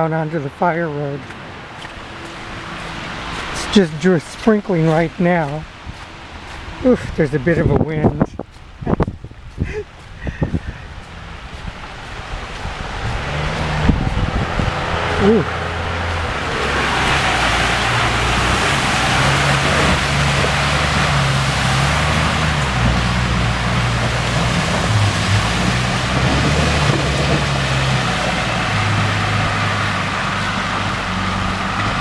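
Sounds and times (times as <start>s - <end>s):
wind gusting on microphone: 1.3s - 32.0s.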